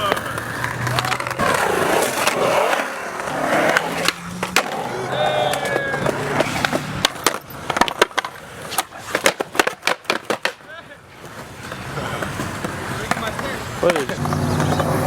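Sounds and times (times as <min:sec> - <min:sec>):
skateboard clacks and knocks: 0:00.0 - 0:15.0
skateboard wheels rolling on concrete: 0:00.0 - 0:15.0.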